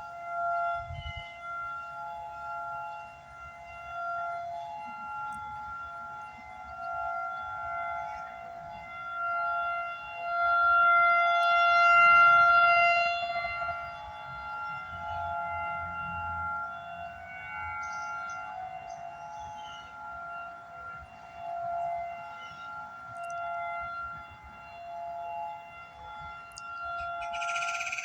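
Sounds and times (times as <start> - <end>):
tornado warning siren: 0.0 - 28.0.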